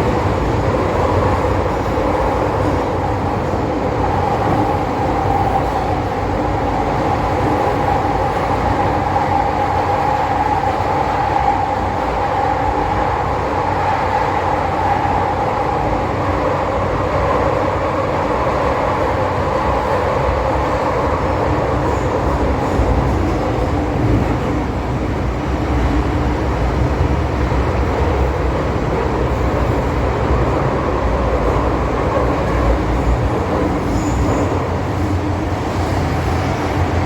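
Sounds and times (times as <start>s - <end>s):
train hum with steady tones: 0.0s - 37.0s
wheels rumbling on track: 0.0s - 37.0s.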